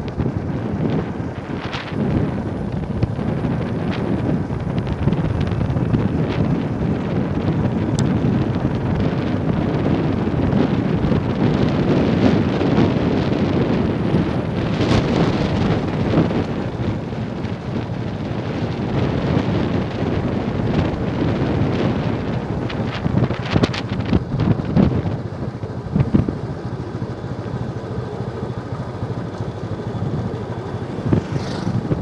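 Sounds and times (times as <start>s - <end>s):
motorcycle engine running: 0.0s - 32.0s
wind buffeting microphone: 0.0s - 32.0s.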